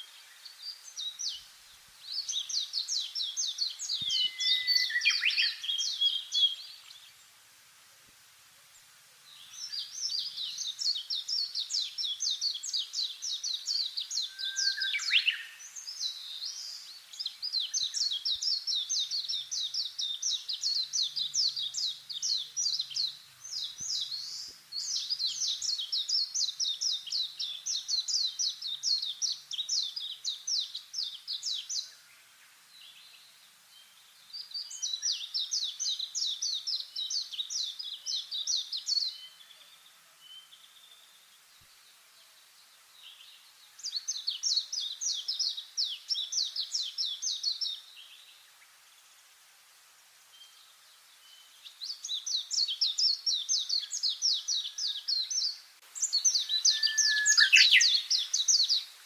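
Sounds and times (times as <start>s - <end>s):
small songbird singing: 0.0s - 7.4s, 8.6s - 59.0s.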